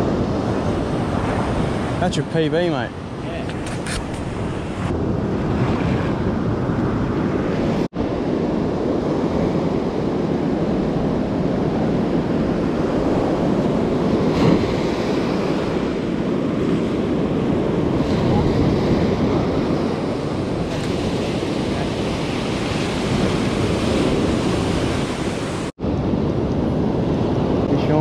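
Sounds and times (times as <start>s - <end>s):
ocean surf breaking on sand: 0.0s - 28.0s
wind buffeting microphone: 0.0s - 28.0s.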